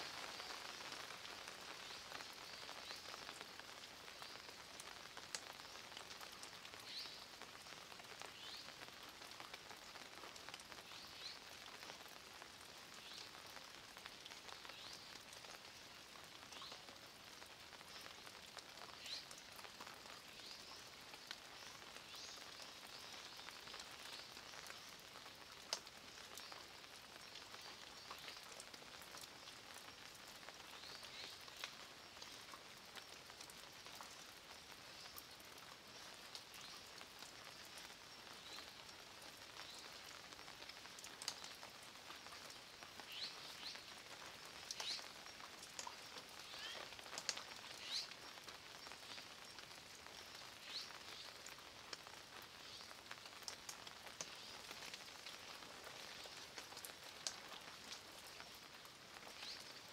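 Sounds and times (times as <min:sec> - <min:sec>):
light rain pattering on stone: 0:00.0 - 0:59.9.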